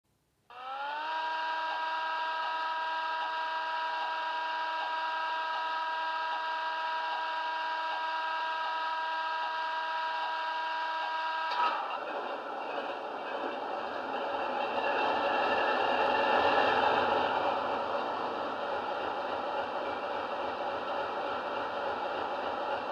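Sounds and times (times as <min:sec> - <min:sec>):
diesel engine sound from small speaker: 0:00.5 - 0:22.9.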